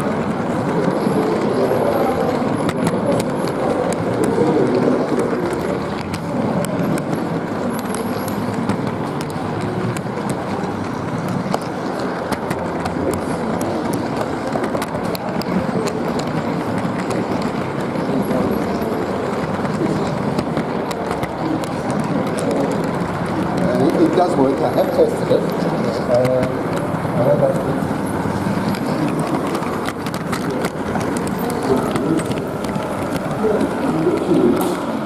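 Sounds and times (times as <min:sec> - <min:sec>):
model train rolling: 0:00.0 - 0:35.0.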